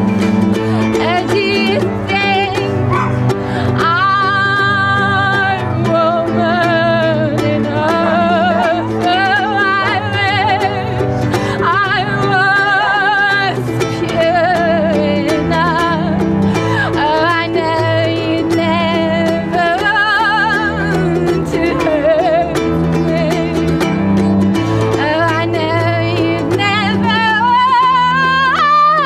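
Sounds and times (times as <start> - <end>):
strummed ukulele: 0.0 - 29.0
woman singing with vibrato: 0.0 - 29.0.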